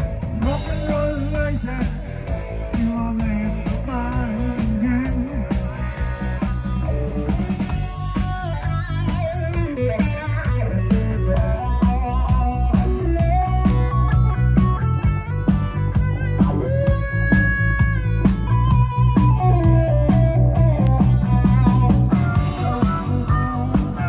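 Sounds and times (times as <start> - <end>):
electric guitar lead line: 0.0 - 24.0
rock and roll band playing: 0.0 - 24.0.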